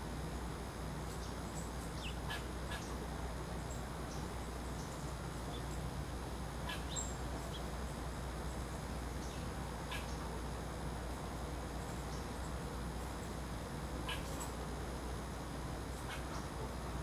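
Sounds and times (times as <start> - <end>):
low background hiss: 0.0 - 17.0
songbirds chirping: 0.0 - 17.0.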